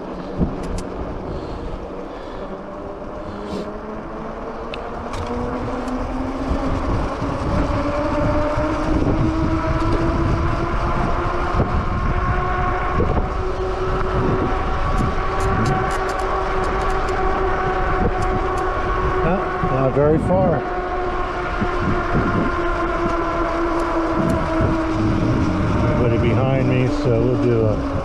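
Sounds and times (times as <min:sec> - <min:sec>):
electric bike motor whining: 0:00.0 - 0:28.0
wind rumble on microphone: 0:00.0 - 0:28.0.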